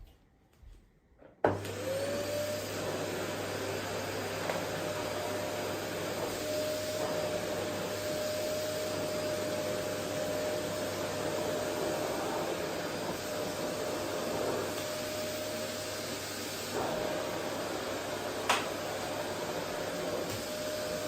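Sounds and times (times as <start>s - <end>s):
vacuum cleaner running: 1.4s - 21.0s.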